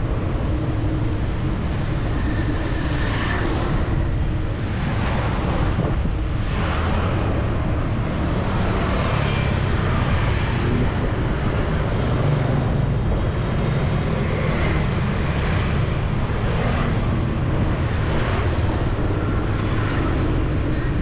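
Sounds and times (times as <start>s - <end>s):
passing vehicle engines: 0.0s - 21.0s.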